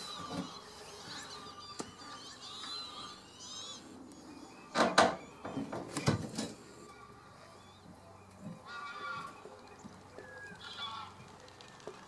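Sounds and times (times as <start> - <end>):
wetland birds chirping: 0.0 - 12.0.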